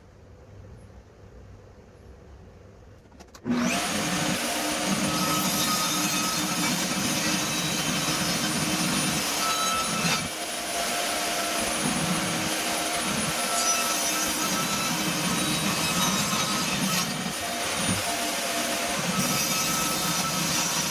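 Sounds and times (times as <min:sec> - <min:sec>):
power tool cutting wood: 0:03.4 - 0:20.9.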